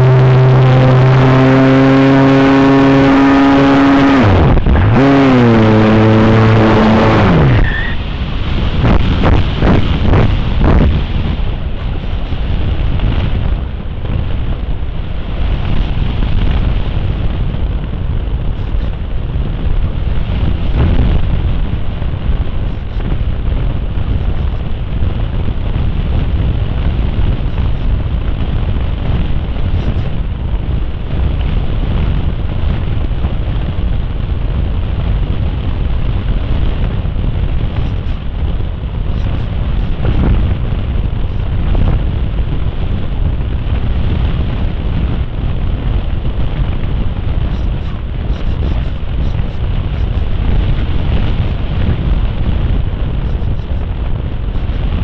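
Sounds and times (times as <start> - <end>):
wind rush on microphone: 0.0 - 55.0.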